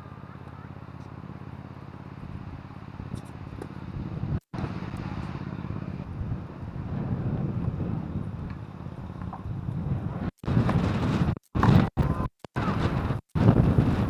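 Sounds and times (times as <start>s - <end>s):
wind buffeting a microphone: 2.2s - 14.0s.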